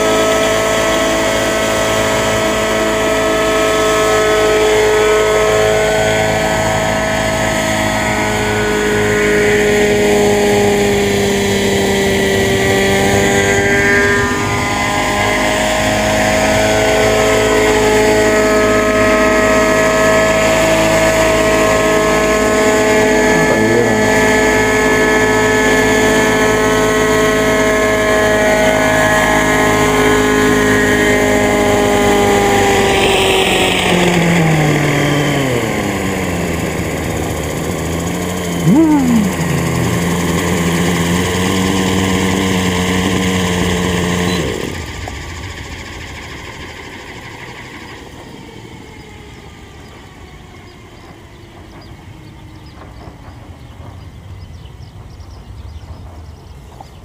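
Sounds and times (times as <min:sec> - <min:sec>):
engine running at high revs: 0:00.0 - 0:57.0.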